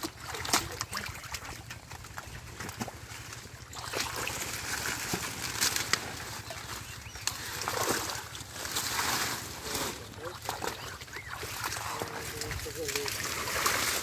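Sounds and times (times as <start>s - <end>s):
leaves and stems rustling: 0.0s - 14.0s
muddy water sloshing and splashing: 0.0s - 14.0s.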